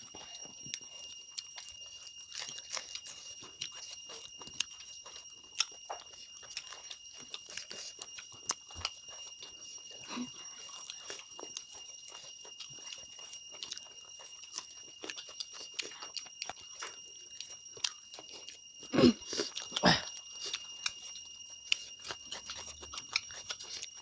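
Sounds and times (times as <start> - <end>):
chewing and lip-smacking: 0.0 - 24.0
faint high whine: 0.0 - 24.0.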